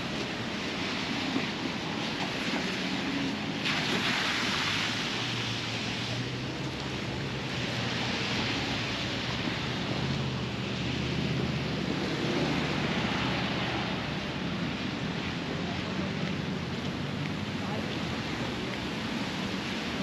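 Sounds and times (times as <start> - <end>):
low traffic rumble: 0.0 - 20.0
traffic hiss on wet road: 0.0 - 20.0.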